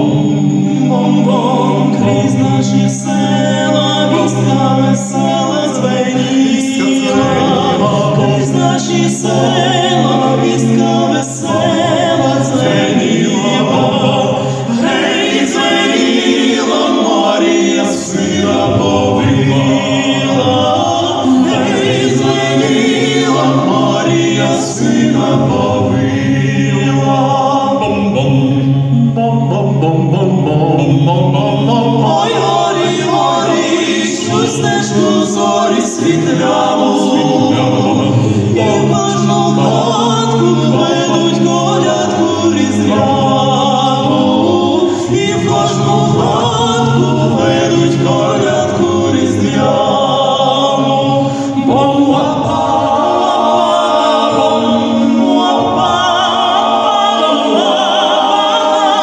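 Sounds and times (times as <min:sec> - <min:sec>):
male vocal quartet singing: 0:00.0 - 0:59.0.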